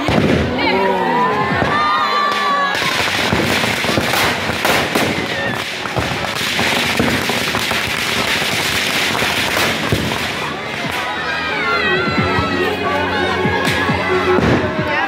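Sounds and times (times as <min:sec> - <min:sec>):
firecrackers banging and crackling: 0:00.0 - 0:11.6, 0:13.5 - 0:15.0.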